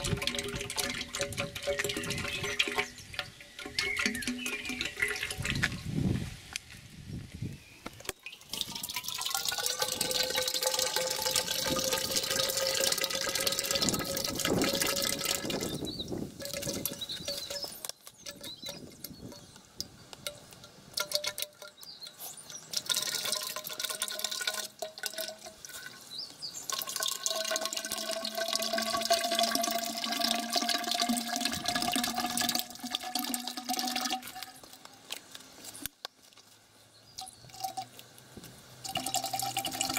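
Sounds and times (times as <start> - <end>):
oil pouring into steel tank: 0.0 - 5.8, 8.0 - 19.4, 20.2 - 21.8, 22.5 - 34.8, 37.2 - 37.9, 38.8 - 39.9.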